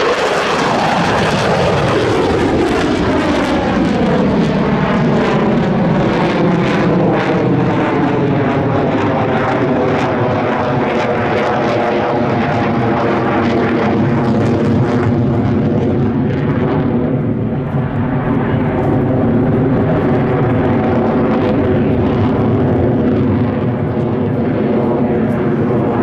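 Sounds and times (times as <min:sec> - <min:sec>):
jet engine roaring: 0:00.0 - 0:26.0.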